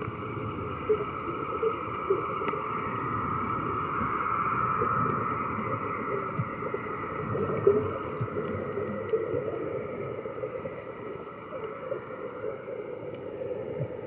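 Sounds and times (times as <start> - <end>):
air bubbles gurgling underwater: 0.0 - 14.0.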